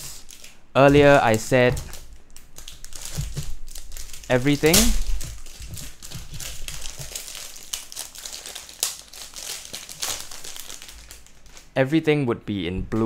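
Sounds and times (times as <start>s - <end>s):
plastic wrapping crinkling: 0.0s - 11.8s.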